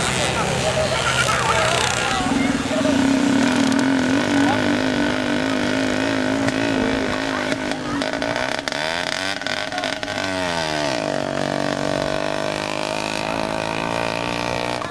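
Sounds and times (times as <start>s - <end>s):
moped engines revving: 0.0s - 14.9s.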